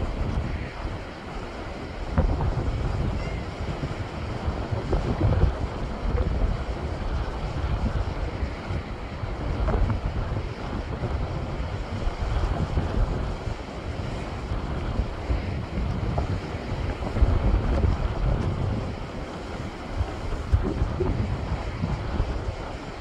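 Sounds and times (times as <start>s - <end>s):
waves breaking on rocks: 0.0s - 23.0s
wind rumble on microphone: 0.0s - 23.0s.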